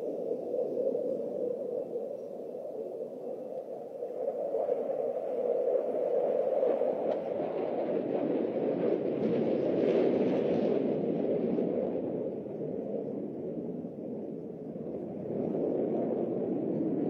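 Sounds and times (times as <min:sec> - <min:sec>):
fighter jet engine rumble: 0:00.0 - 0:17.0.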